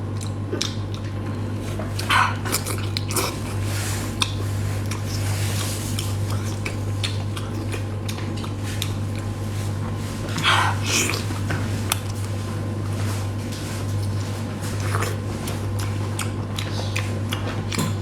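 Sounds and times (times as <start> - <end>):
biting and chewing: 0.0 - 18.0
steady low hum: 0.0 - 18.0.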